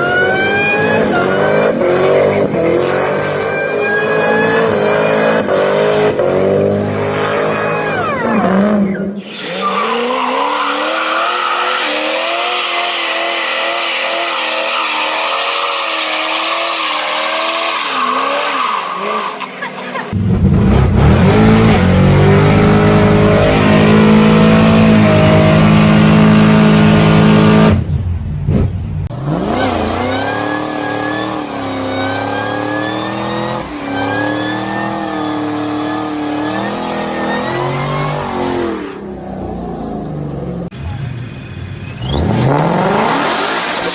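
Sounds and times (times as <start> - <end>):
muscle car engines revving: 0.0 - 43.9.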